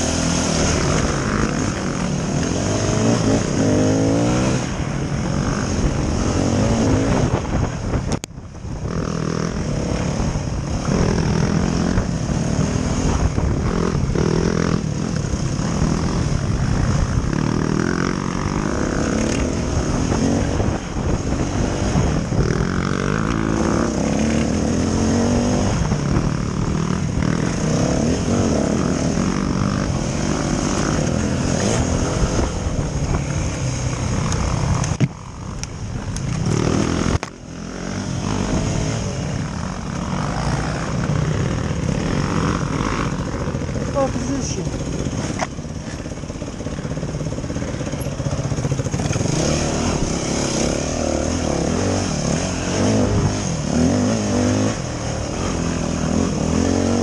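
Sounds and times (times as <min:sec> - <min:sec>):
dirt bike engine revving: 0:00.0 - 0:07.7, 0:08.8 - 0:57.0.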